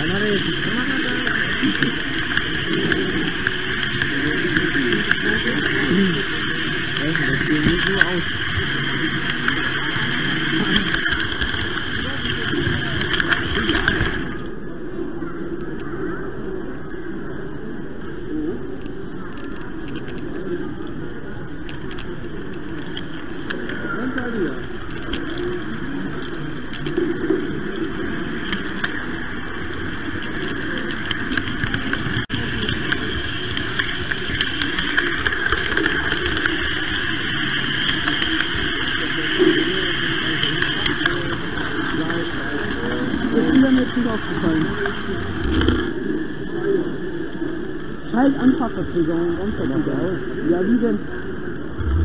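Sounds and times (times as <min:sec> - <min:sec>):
model train whirring on track: 0:00.0 - 0:14.6, 0:18.8 - 0:47.1
murmur of voices: 0:00.0 - 0:52.0.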